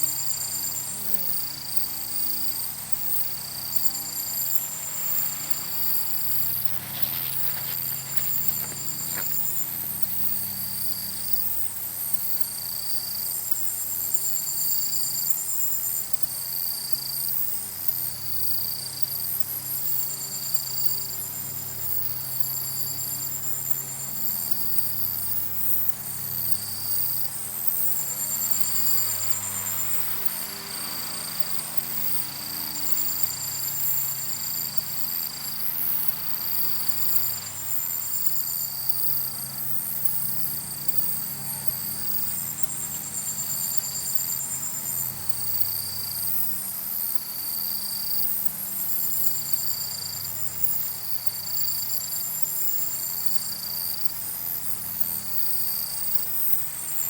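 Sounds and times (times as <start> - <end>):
insect high call: 0.0 - 57.0
pulsing insect trills: 0.0 - 57.0.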